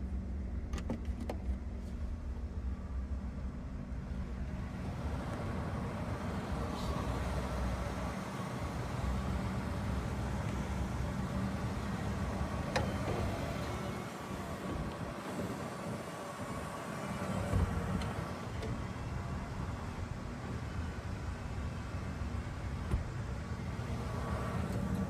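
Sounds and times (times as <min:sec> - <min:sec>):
car engine rumbling: 0:03.9 - 0:25.0.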